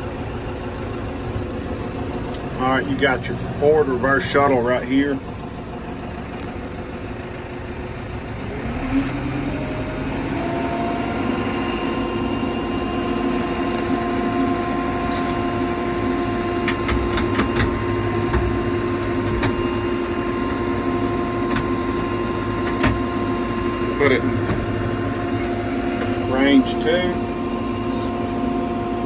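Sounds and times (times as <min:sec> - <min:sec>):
diesel tractor engine revving: 0:00.0 - 0:29.0.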